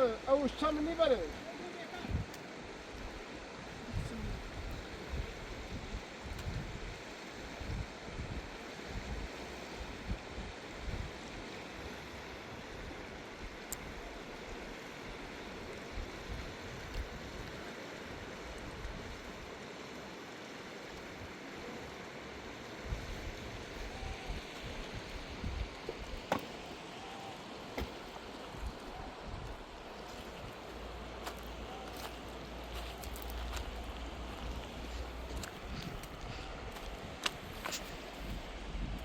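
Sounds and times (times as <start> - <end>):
river rushing: 0.0 - 6.2, 7.0 - 39.0.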